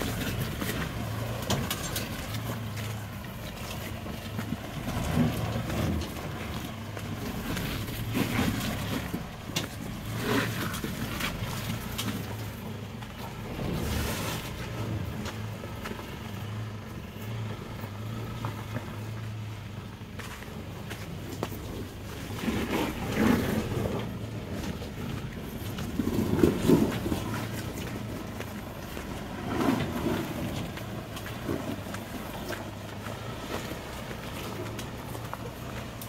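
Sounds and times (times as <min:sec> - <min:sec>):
pickup engine running at low revs: 0:00.0 - 0:36.0.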